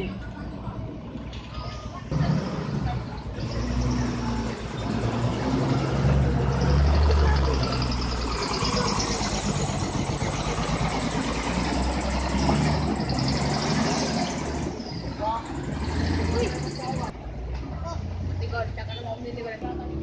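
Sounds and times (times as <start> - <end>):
truck engine humming: 0.0 - 17.4.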